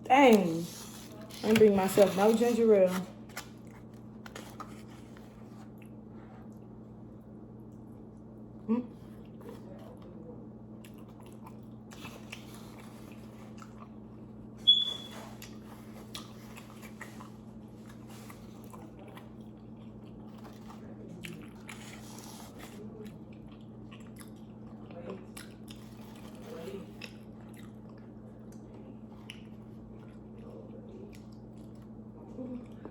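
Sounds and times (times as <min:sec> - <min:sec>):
pizza chewing and crunching: 0:00.0 - 0:32.9.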